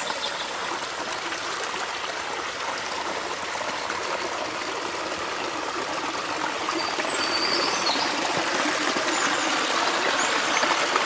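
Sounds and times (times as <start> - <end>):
water trickling over rocks: 0.0 - 11.0.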